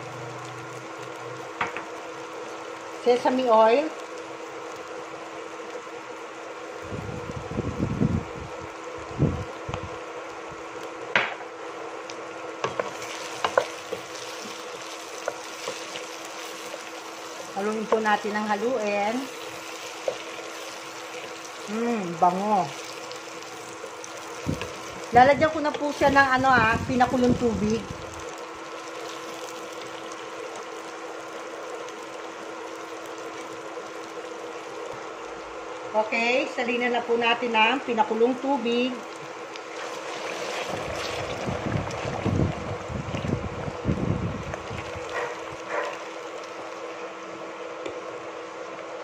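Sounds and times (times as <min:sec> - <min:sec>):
food sizzling in oil: 0:00.0 - 0:48.7.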